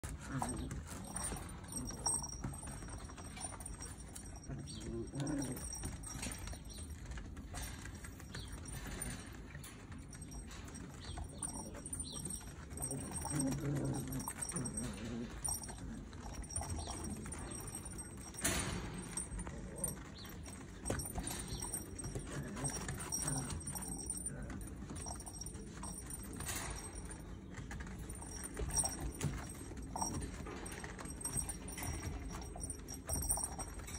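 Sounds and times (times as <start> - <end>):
paw patter: 0.0 - 33.9.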